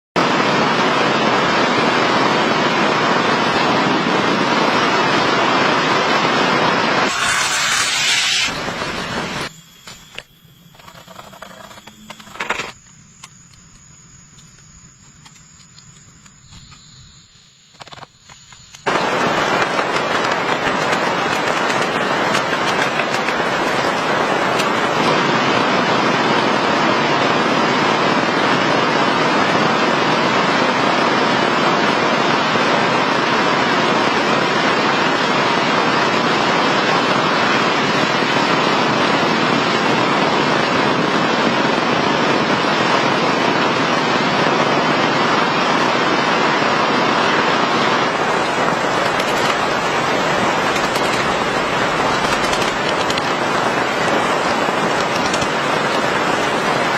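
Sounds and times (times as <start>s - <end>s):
heavy rain: 0.2s - 9.5s, 18.8s - 56.9s.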